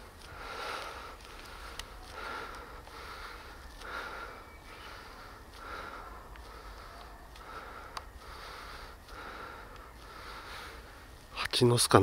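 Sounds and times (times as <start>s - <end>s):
person breathing hard: 0.0s - 11.2s.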